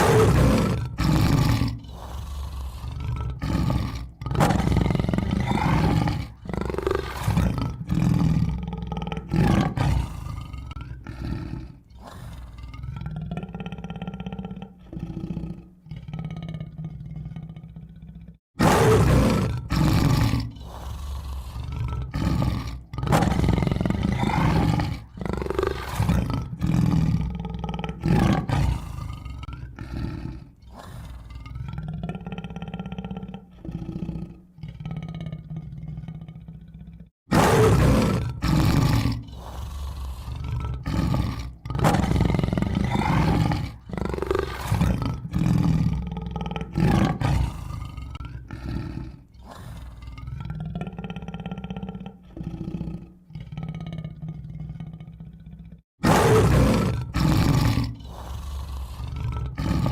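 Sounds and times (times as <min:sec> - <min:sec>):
tiger roars and growls: 0:00.0 - 0:59.9.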